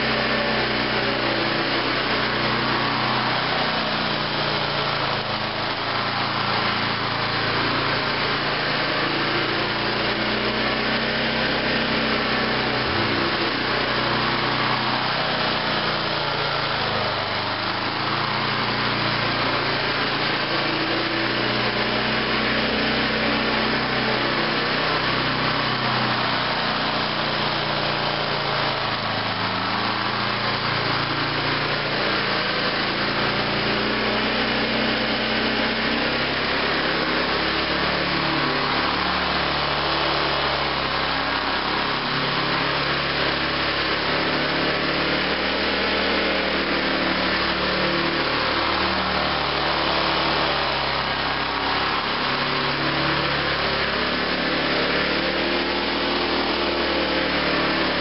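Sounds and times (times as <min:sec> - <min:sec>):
riding lawn mower engine running: 0:00.0 - 0:58.0.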